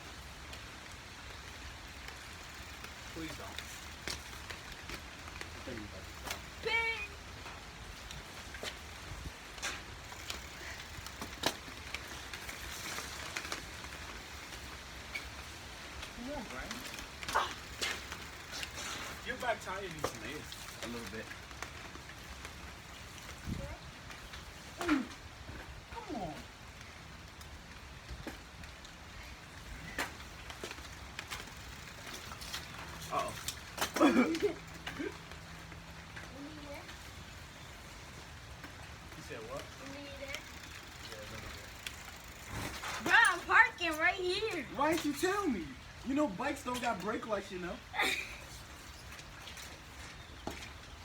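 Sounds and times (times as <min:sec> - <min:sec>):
rain rumble: 0:00.0 - 0:51.0
sharp rain ticks: 0:00.0 - 0:51.0
tyres hissing on wet pavement: 0:00.0 - 0:51.0.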